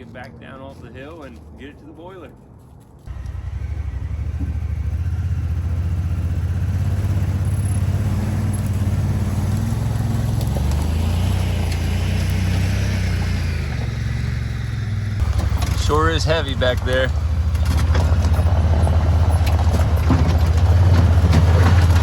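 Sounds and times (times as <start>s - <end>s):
utility vehicle engine under load: 3.1s - 22.0s.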